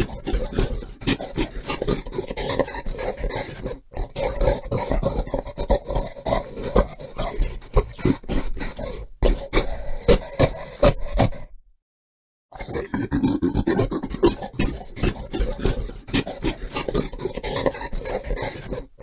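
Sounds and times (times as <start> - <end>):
gorilla rough calls: 0.0 - 11.6, 12.5 - 19.0.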